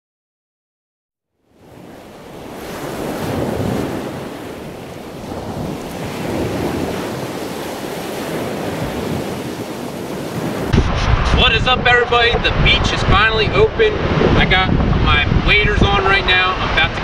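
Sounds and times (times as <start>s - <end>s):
surf washing onto sand beach: 1.5s - 17.0s
wind noise on microphone: 1.6s - 17.0s.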